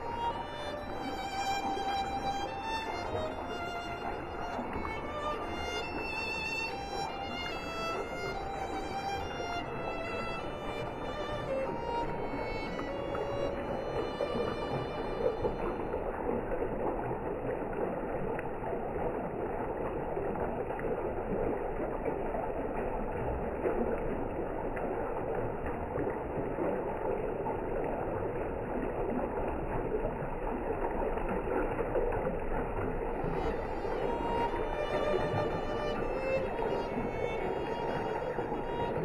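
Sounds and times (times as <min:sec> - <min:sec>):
stream rushing water: 0:00.0 - 0:39.0.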